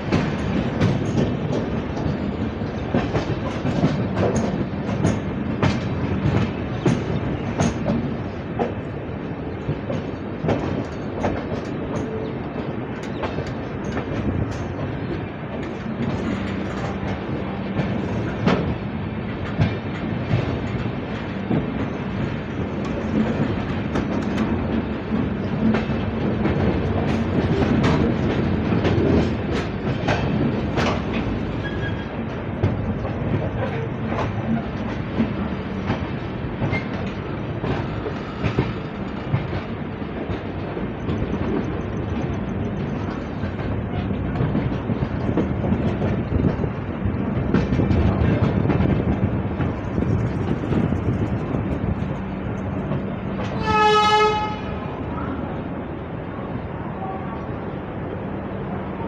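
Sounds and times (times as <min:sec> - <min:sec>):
train wheels clacking over joints: 0:00.0 - 0:54.7
steady train rumble: 0:00.0 - 0:59.0.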